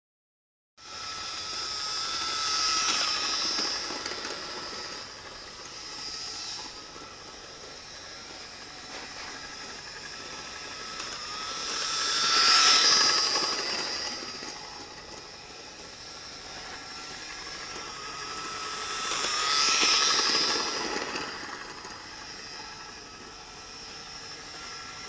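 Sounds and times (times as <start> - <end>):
model train whirring on track: 0.8 - 25.0.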